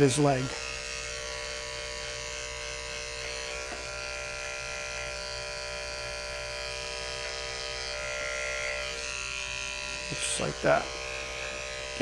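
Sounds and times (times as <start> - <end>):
electric clippers running: 0.0 - 12.0.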